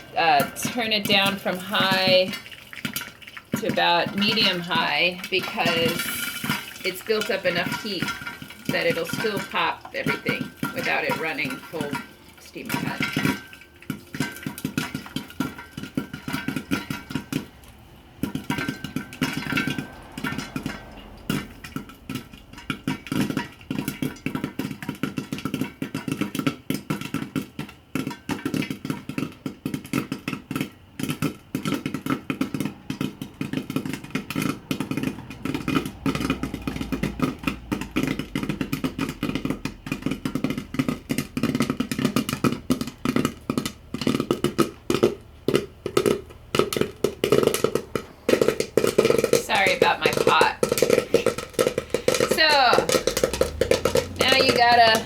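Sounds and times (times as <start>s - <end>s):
popcorn popping in oil: 0.0s - 55.0s.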